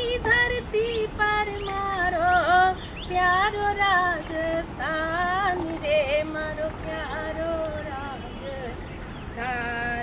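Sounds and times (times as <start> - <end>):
woman singing unaccompanied: 0.0 - 10.0.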